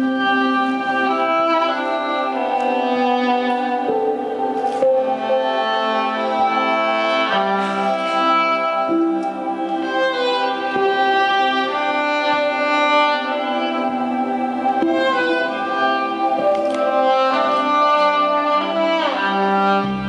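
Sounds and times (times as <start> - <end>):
bowed violin held notes: 0.0 - 20.0.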